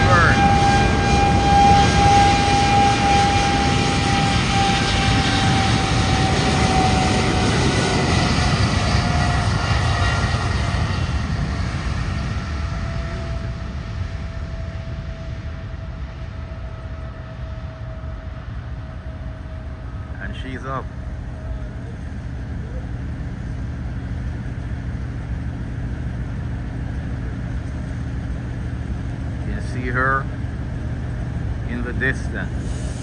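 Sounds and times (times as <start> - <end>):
jet airliner taking off: 0.0 - 33.0.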